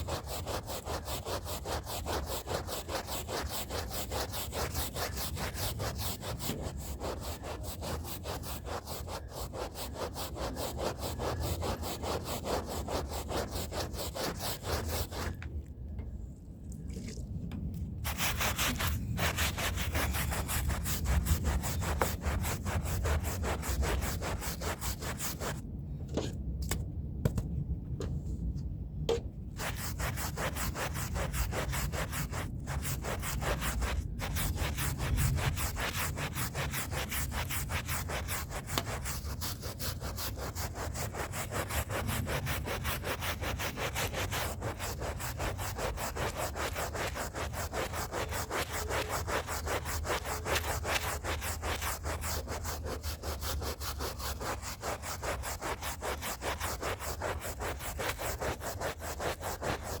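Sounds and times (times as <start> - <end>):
brush scrubbing a rug: 0.0 - 15.4, 18.0 - 25.6, 29.6 - 60.0.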